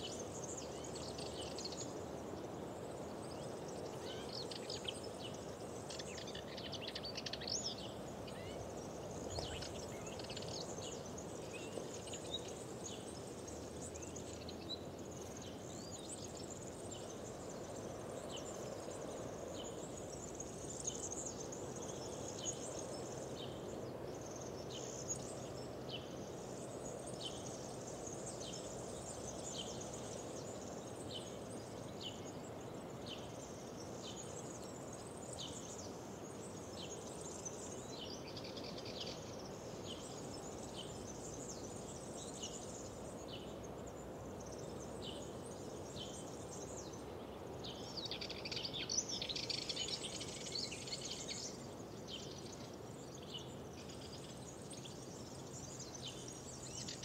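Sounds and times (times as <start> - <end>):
chorus of birds: 0.0 - 57.0.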